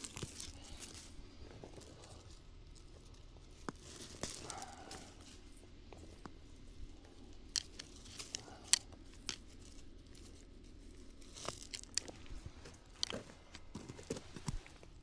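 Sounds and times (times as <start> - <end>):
brush rustling and crunching: 0.0 - 15.0.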